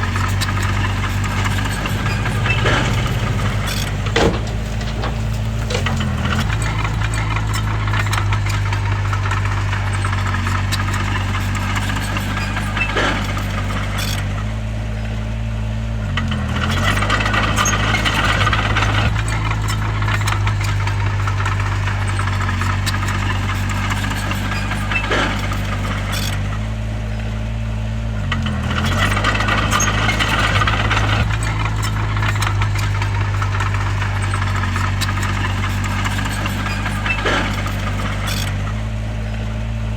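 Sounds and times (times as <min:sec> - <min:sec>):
metallic clattering of tracks: 0:00.0 - 0:14.5, 0:16.7 - 0:26.7, 0:28.6 - 0:39.4
bulldozer diesel engine running: 0:00.0 - 0:39.9.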